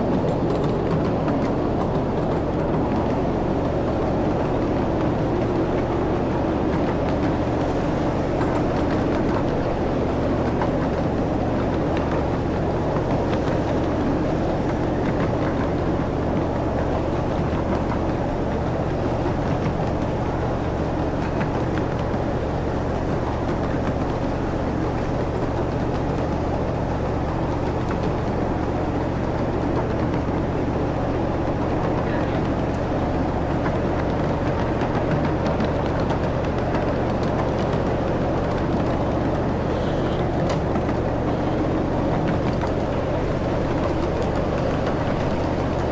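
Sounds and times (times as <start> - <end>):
cars rolling along track: 0.0 - 45.9
train engine drone: 0.0 - 45.9.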